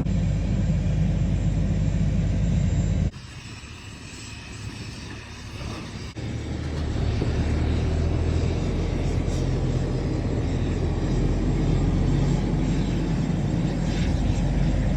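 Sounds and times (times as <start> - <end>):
steady low rumble: 0.0 - 3.2, 5.0 - 14.9.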